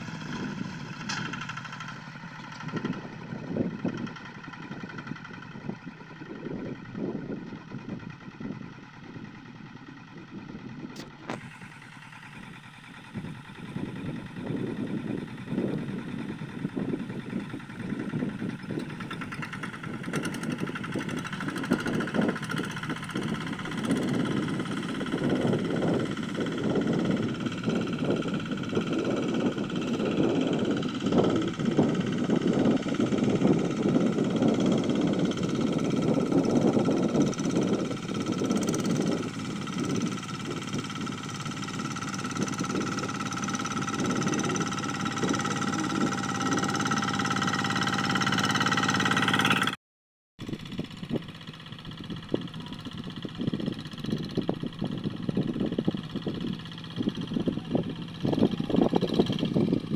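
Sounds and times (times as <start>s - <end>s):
hand tractor engine running: 0.0s - 49.8s, 50.4s - 59.9s.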